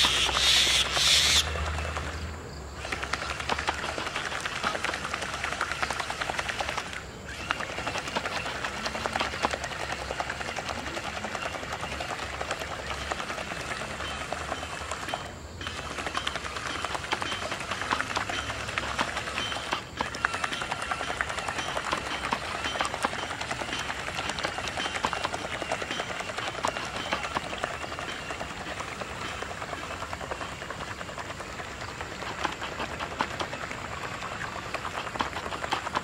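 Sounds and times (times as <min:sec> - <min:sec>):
faint motor whir: 0:00.0 - 0:36.0
paddle wheel splashing water: 0:00.0 - 0:36.0.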